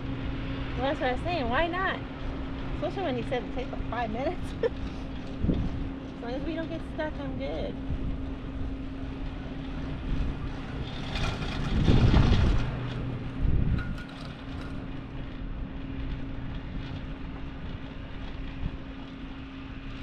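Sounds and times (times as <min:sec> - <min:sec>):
chairlift humming and rumbling: 0:00.0 - 0:20.0.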